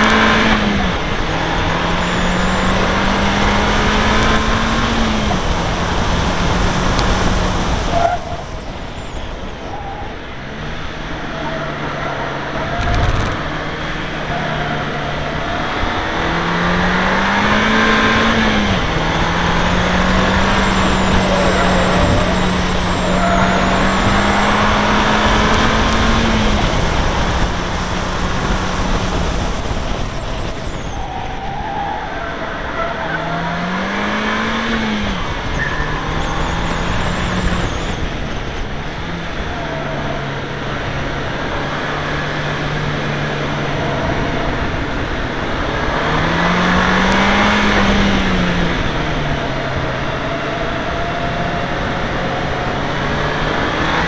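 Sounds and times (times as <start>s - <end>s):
car engine revving hard: 0.0s - 54.0s
wind and road noise: 0.0s - 54.0s.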